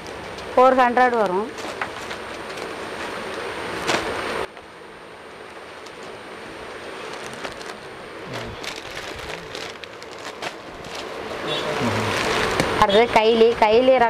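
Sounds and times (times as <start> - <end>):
plastic packaging crinkling: 0.0 - 4.1, 5.4 - 12.9.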